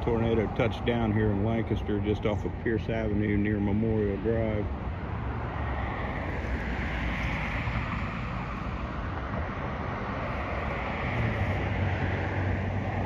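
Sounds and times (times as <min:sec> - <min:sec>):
cars passing with tyre noise: 0:00.0 - 0:13.0.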